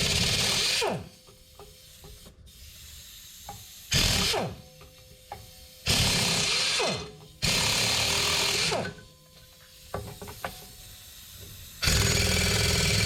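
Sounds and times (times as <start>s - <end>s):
impact wrench bursts: 0.0s - 2.8s, 3.5s - 13.0s.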